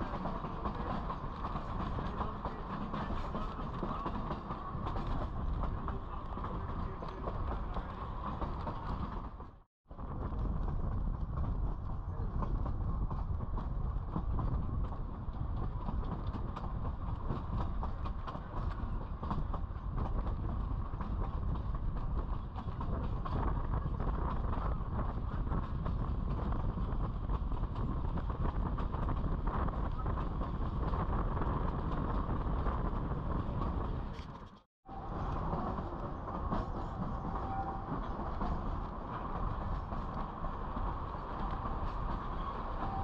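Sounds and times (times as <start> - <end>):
train wheels clattering on rails: 0.0 - 43.0.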